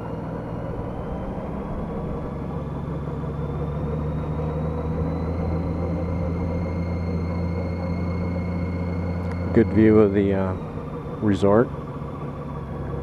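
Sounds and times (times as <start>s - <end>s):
faint rising whine: 0.0s - 13.0s
motorcycle engine running: 0.0s - 13.0s.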